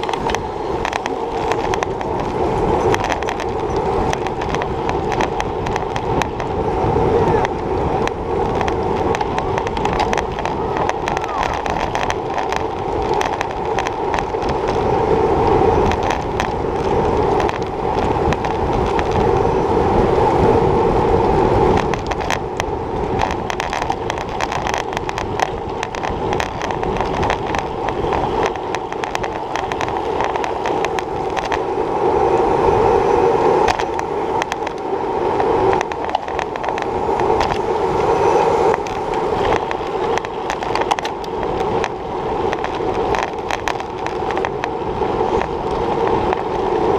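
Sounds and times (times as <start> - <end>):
bike rattles and clicks: 0.0 - 46.9
tyres and wind humming: 0.0 - 46.9.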